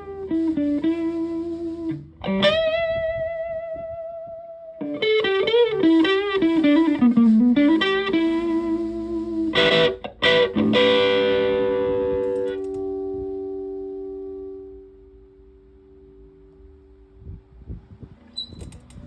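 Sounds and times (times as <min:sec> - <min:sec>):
fuzz electric guitar playing: 0:00.0 - 0:17.2.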